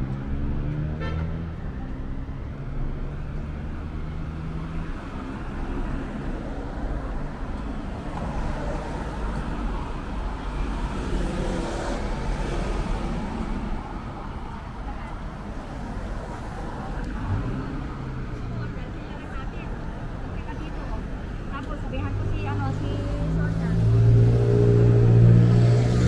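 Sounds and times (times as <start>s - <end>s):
cars passing by: 0.0s - 26.0s.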